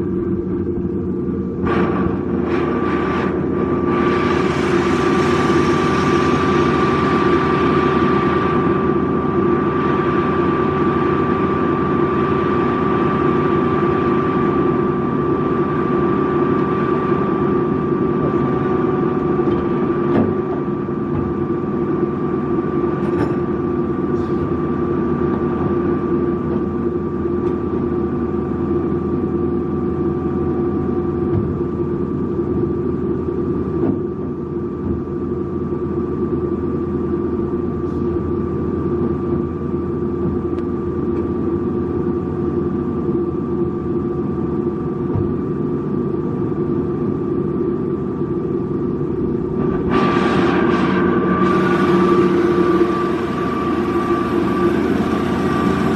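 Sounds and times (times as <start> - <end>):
band saw humming and whining: 0.0 - 55.9.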